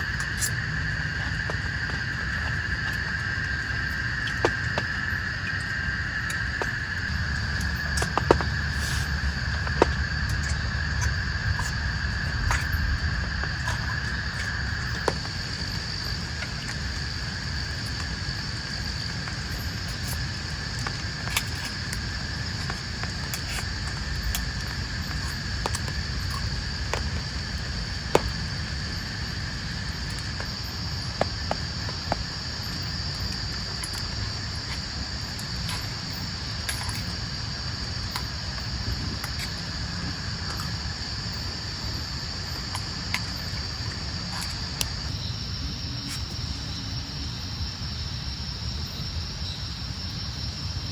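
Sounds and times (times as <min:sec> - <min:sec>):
rain: 0:00.0 - 0:45.2
crickets calling: 0:00.0 - 0:50.9.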